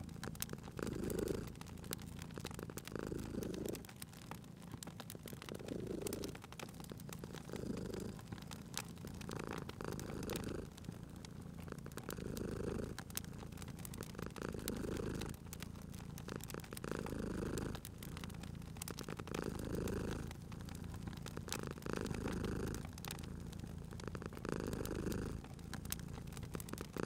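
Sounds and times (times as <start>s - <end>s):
cat purring: 0.0s - 27.0s
wood fire crackling: 0.0s - 27.0s.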